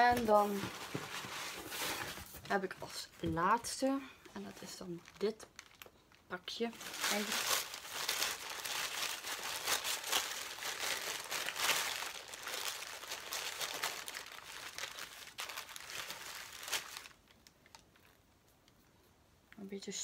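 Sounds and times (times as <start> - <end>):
wrapping crinkling: 0.0 - 3.0, 3.7 - 18.8.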